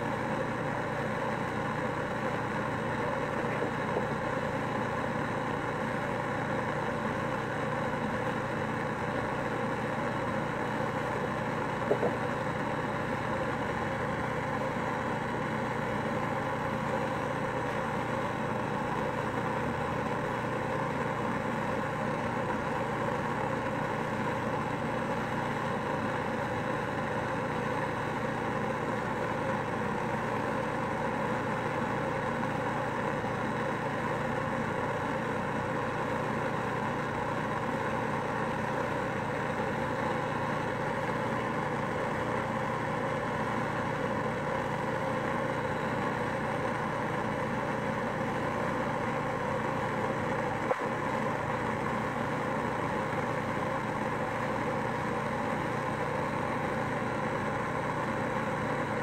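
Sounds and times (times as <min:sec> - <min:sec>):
gas torch flame roaring: 0:00.0 - 0:59.0.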